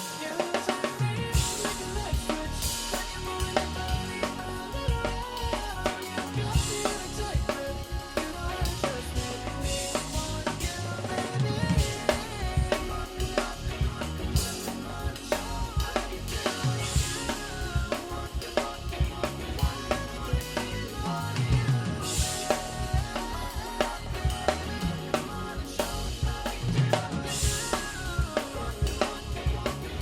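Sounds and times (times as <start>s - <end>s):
drum kit beat: 0.0s - 30.0s
pop instrumental music: 0.0s - 30.0s.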